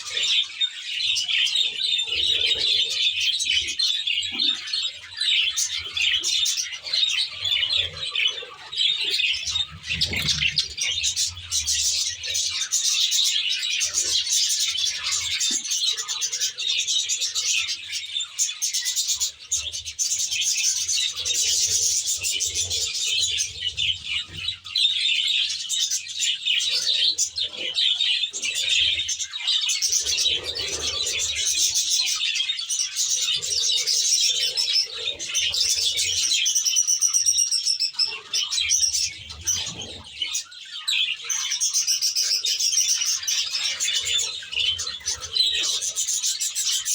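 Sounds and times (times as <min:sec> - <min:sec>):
budgerigars chattering and warbling: 0:00.0 - 0:46.9.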